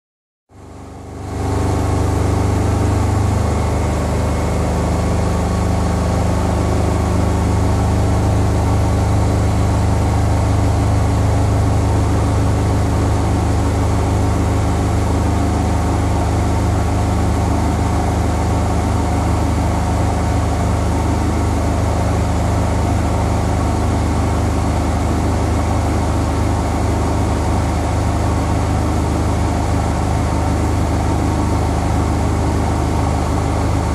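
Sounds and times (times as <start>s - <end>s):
washing machine motor hum: 0.6s - 33.9s.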